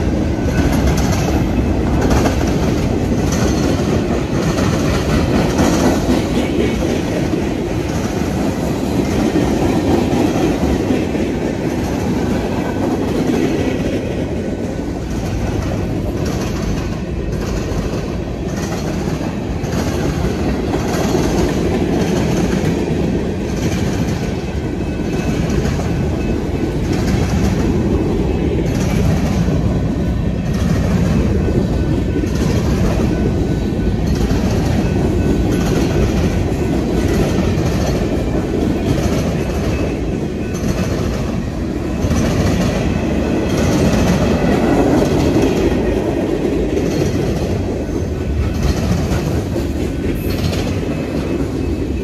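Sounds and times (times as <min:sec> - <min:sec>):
freight train rolling past: 0:00.0 - 0:52.0
wheels clacking over rail joints: 0:00.0 - 0:52.0.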